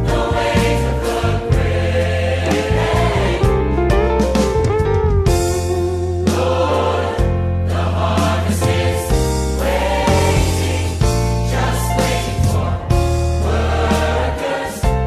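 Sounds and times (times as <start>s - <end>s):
choir singing worship song: 0.0s - 4.3s, 6.2s - 15.0s
instrumental accompaniment: 0.0s - 15.0s
steady bass: 0.0s - 15.0s.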